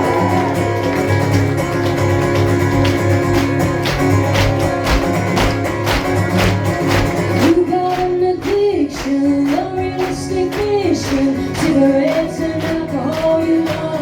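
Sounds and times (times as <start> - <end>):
live country band playing: 0.0 - 14.0.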